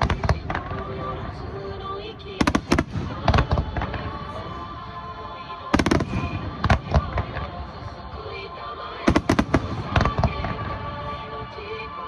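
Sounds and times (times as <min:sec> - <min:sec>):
fireworks bangs and crackles: 0:00.0 - 0:04.8, 0:05.6 - 0:12.0
music: 0:00.0 - 0:12.0.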